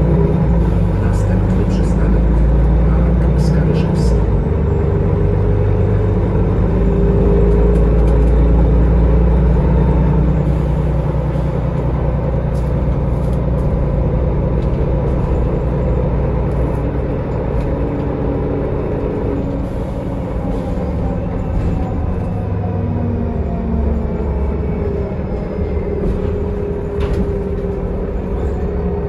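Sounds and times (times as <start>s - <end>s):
bus diesel engine rumble: 0.0s - 29.0s
road noise: 0.0s - 29.0s.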